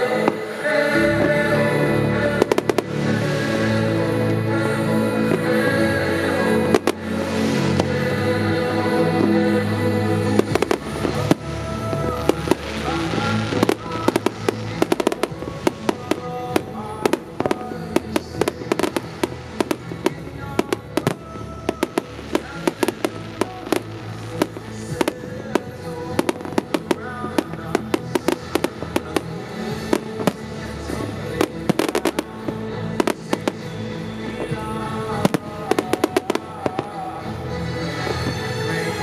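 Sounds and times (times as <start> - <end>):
fireworks bangs and crackles: 0.0 - 39.0
music: 0.0 - 39.0.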